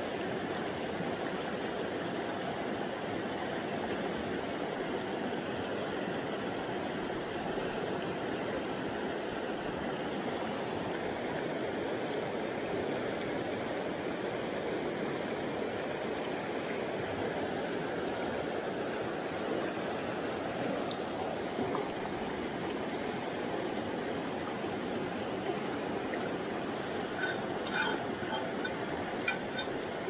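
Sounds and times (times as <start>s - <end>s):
stream running over rocks: 0.0s - 30.0s.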